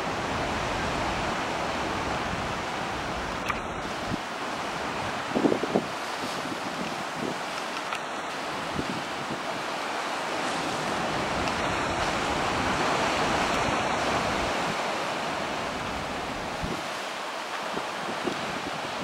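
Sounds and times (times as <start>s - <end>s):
rough sea breaking on rocks: 0.0s - 19.0s
wind rumbling on microphone: 0.0s - 19.0s.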